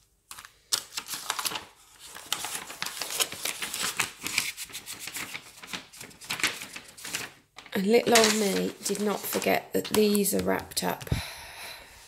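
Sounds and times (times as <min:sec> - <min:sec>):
plastic sleeves crinkling: 0:00.3 - 0:11.2.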